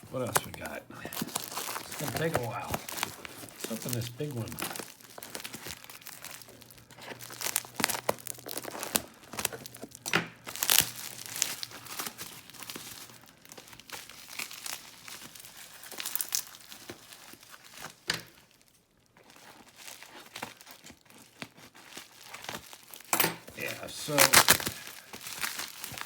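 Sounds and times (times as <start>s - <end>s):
packaging crinkling and tearing: 0.0s - 26.0s.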